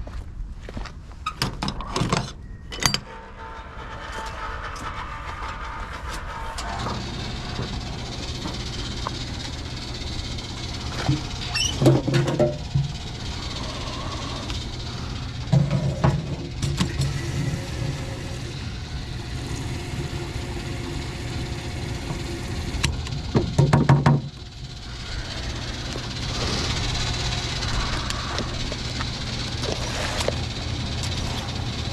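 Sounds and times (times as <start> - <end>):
engine knocks and rattles: 3.1 - 31.9
two-stroke engine running: 5.7 - 31.9.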